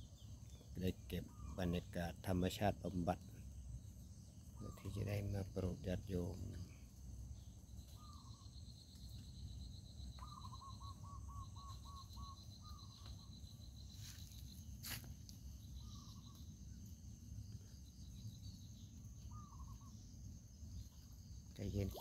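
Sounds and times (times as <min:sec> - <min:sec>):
bird calls: 0:00.0 - 0:22.0
insect chirring: 0:00.0 - 0:22.0
pulsing insect trill: 0:00.0 - 0:22.0.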